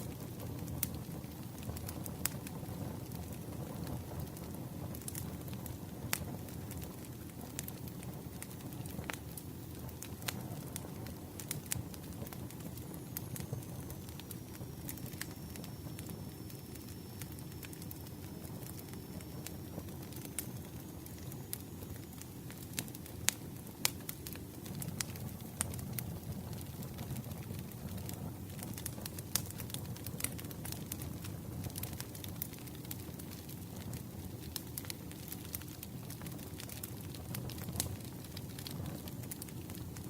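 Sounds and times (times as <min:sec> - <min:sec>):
campfire rumble: 0:00.0 - 0:40.0
wood crackles and pops: 0:00.0 - 0:40.0.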